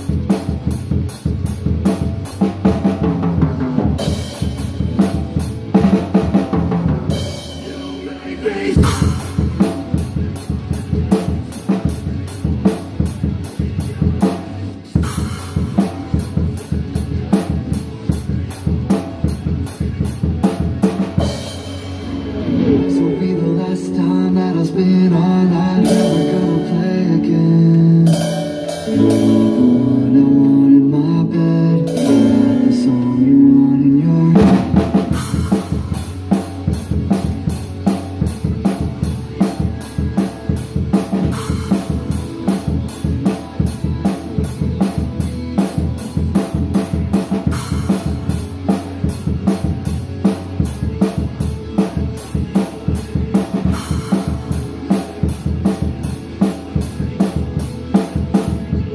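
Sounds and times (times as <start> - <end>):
drum kit beat: 0.0 - 58.9
recorded rock song: 0.0 - 58.9.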